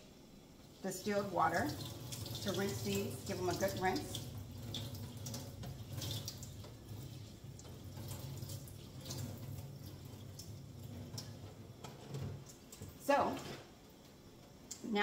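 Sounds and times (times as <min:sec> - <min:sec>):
low steady hum: 0:00.0 - 0:15.0
water pouring and dripping: 0:00.6 - 0:14.8.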